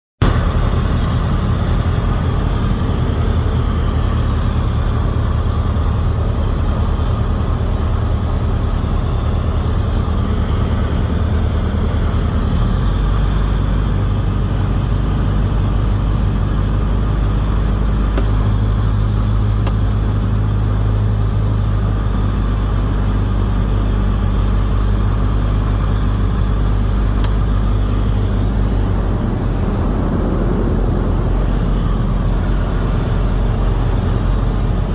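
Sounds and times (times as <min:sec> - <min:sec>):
light aircraft engine drone: 0:00.2 - 0:34.9.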